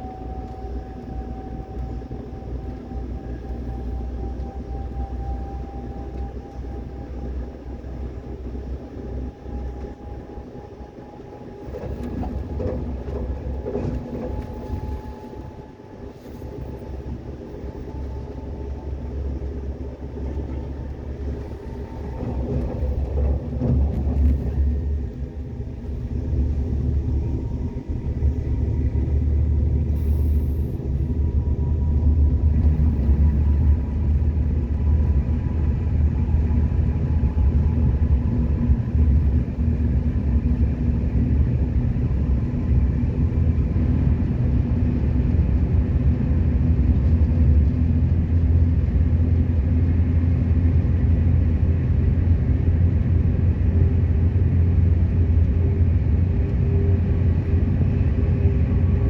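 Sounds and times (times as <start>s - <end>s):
train carriage rumbling: 0.0s - 59.0s.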